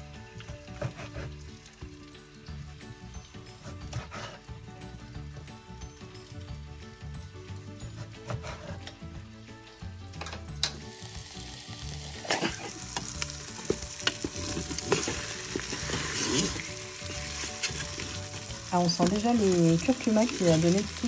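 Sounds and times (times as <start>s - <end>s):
chicken sizzling in hot oil: 0.0s - 7.8s, 10.7s - 21.0s
background music: 0.0s - 21.0s.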